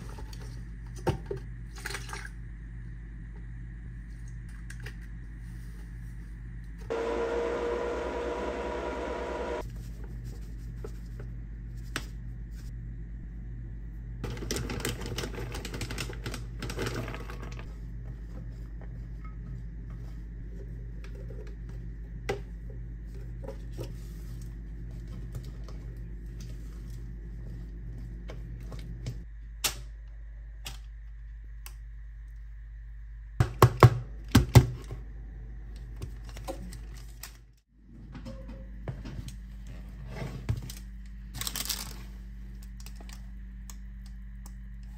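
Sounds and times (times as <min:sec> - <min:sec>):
steady low hum: 0:00.0 - 0:16.7, 0:17.4 - 0:44.9.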